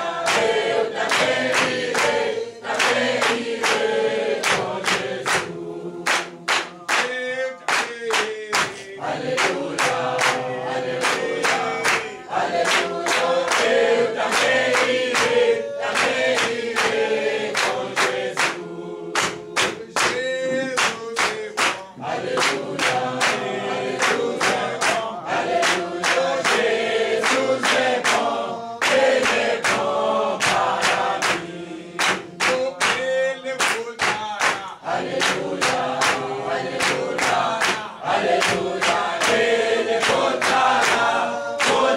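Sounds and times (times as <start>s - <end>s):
congregation singing a worship song: 0.0s - 41.9s
hand clapping: 0.0s - 41.9s.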